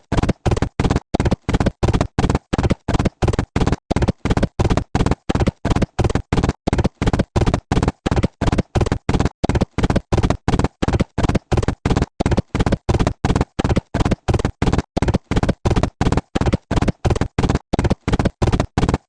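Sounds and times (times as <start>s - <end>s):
cartoon hoofbeats galloping: 0.0s - 19.0s.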